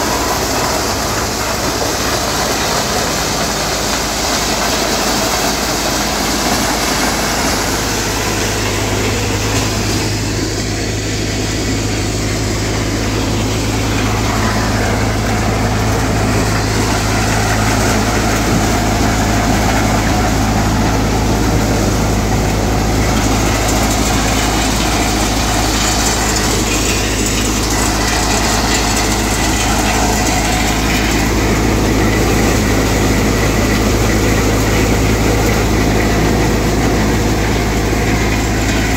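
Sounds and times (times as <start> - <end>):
thresher mechanical drone: 0.0 - 38.9.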